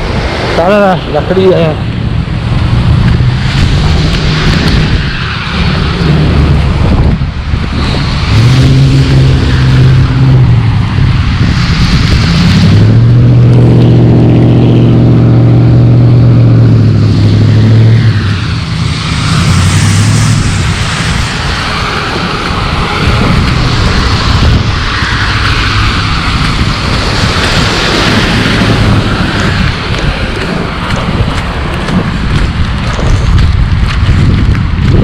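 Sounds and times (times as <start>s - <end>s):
vehicle engine humming: 0.0s - 35.0s
wet street noise: 0.0s - 35.0s
wind hiss: 0.0s - 35.0s.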